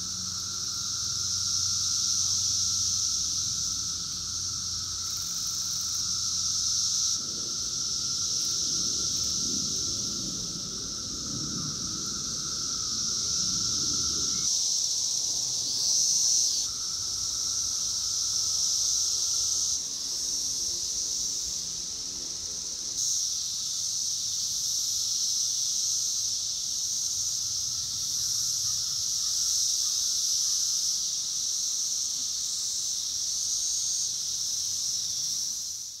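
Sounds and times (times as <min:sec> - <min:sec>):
cicadas droning: 0:00.0 - 0:36.0.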